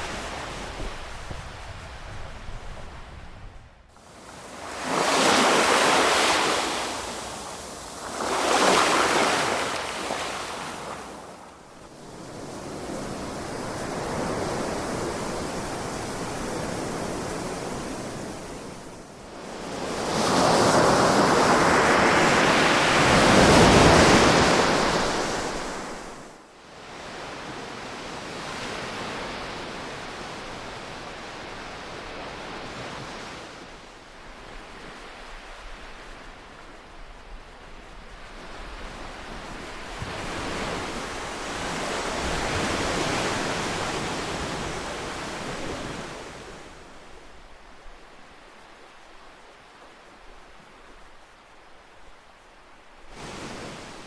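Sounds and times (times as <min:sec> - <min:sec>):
ocean waves washing onto shore: 0:00.0 - 0:54.0.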